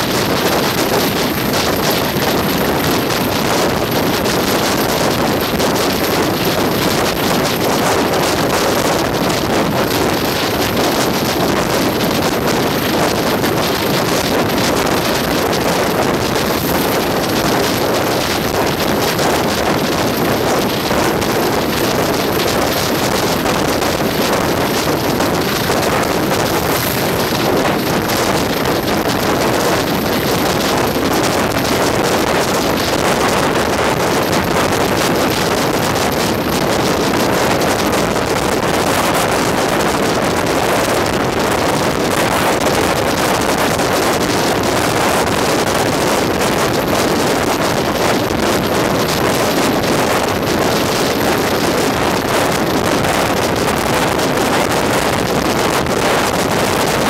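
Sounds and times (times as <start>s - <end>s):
train running noise: 0.0s - 57.0s
wind rushing over microphone: 0.0s - 57.0s.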